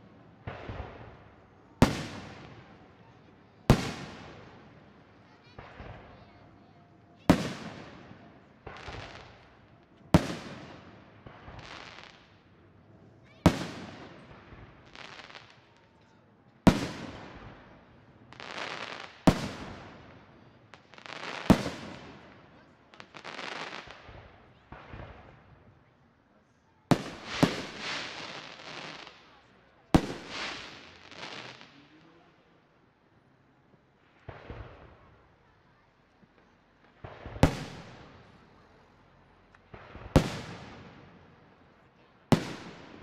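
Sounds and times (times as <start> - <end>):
fireworks bursting with echo: 0.0 - 12.6, 13.2 - 16.0, 16.6 - 25.8, 26.8 - 32.3, 33.7 - 35.5, 36.2 - 43.0.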